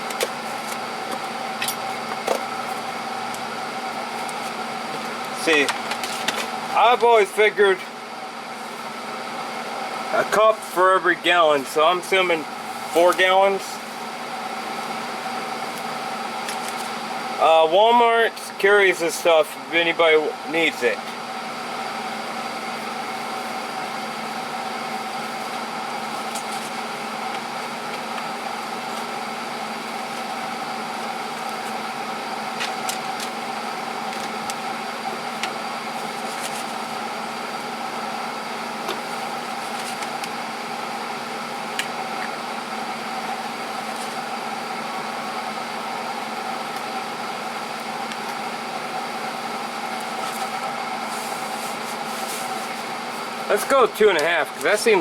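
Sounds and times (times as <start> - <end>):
motor or fan humming: 0.0 - 55.0.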